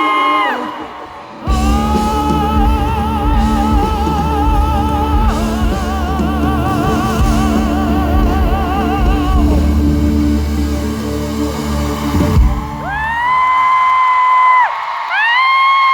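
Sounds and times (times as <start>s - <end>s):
full band with heavy bass: 1.4s - 14.4s.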